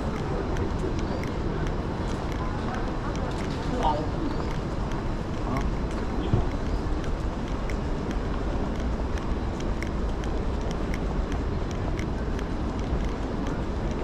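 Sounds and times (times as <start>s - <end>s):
faint sharp ticks: 0.0s - 14.0s
traffic rumble and hiss: 0.0s - 14.0s.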